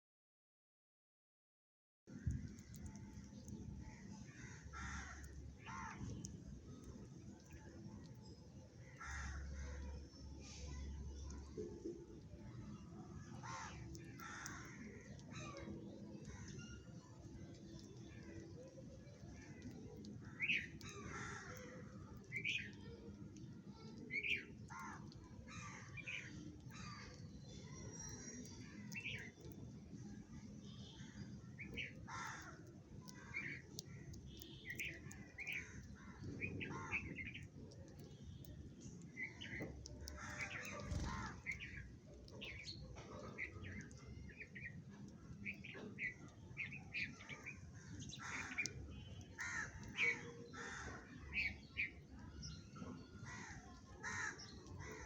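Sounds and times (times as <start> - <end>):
sparrows chirping: 2.2 - 55.0.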